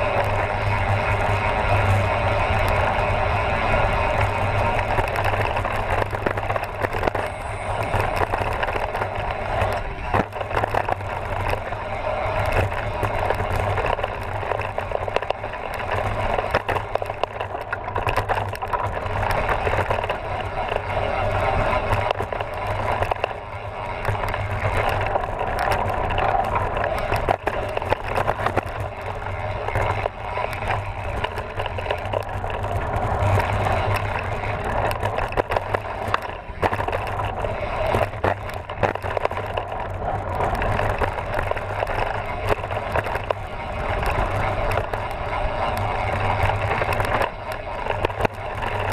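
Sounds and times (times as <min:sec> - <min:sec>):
bike rattles and knocks: 0:00.0 - 0:48.9
bike tyres on gravel: 0:00.0 - 0:48.9.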